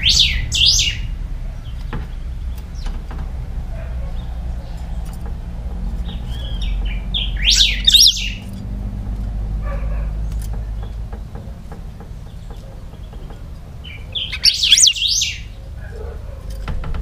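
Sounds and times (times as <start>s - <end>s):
bird singing: 0.0s - 3.1s, 3.8s - 16.4s.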